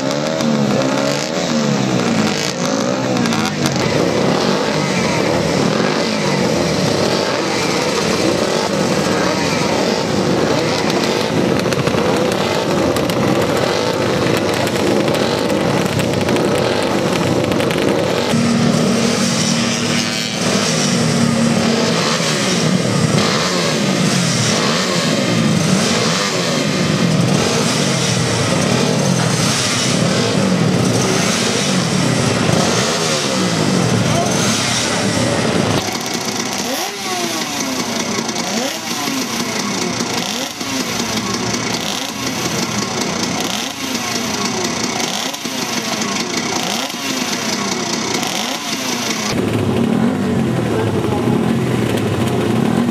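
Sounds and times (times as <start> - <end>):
motorcycle engines revving: 0.0 - 52.9.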